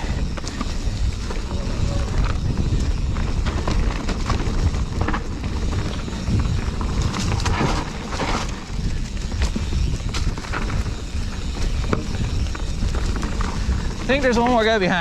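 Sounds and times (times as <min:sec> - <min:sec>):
bike knocking and rattling: 0:00.0 - 0:15.0
tyres rumbling on trail: 0:00.0 - 0:15.0
wind on microphone: 0:00.0 - 0:15.0.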